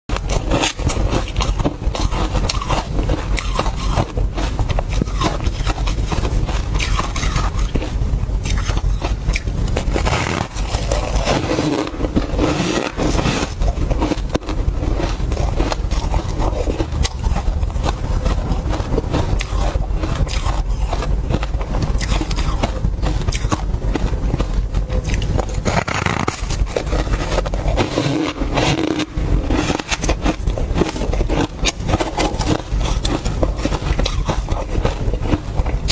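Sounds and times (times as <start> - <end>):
ice being scraped and crunched: 0.1 - 35.9
low rumble: 0.1 - 35.9.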